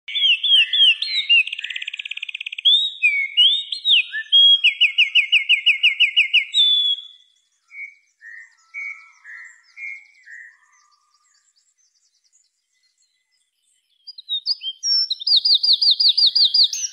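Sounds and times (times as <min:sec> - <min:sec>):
wren singing: 0:00.1 - 0:16.9.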